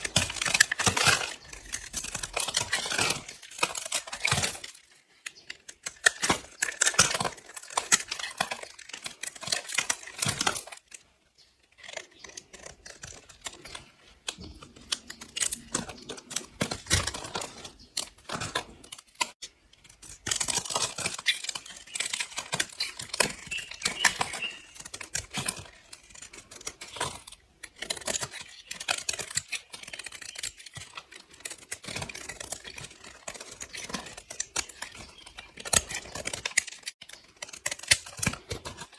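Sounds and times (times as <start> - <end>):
blade slicing soap crackling: 0.0 - 38.9.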